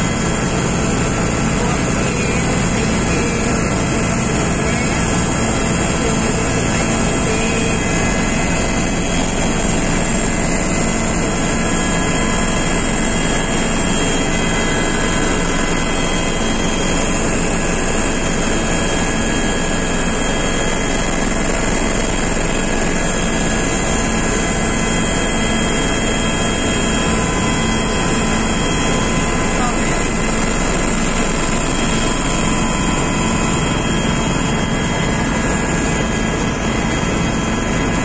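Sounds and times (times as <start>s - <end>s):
aircraft engine drone in cabin: 0.0s - 38.0s.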